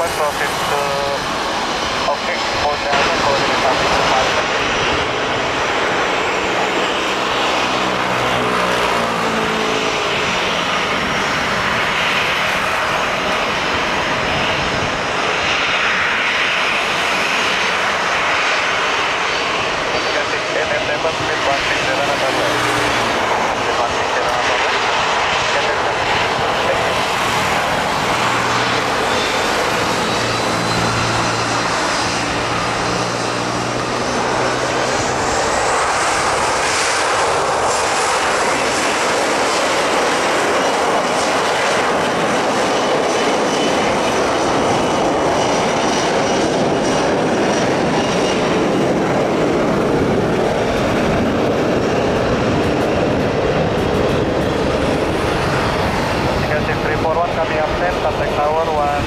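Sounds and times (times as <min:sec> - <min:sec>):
jet engine roar with whine: 0:00.0 - 0:59.0.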